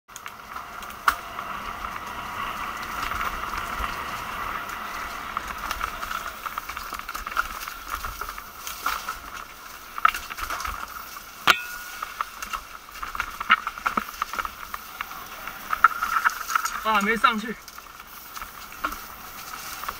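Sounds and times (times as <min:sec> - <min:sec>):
bike chain and frame rattle: 0:00.1 - 0:19.9.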